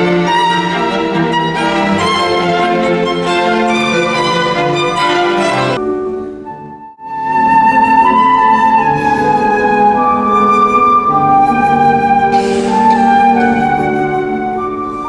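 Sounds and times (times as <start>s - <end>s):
flute playing long notes: 0.0s - 15.0s
piano accompaniment: 0.0s - 15.0s.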